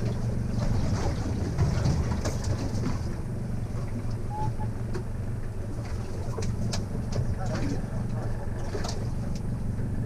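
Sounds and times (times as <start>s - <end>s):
boat engine rumbling: 0.0s - 10.0s.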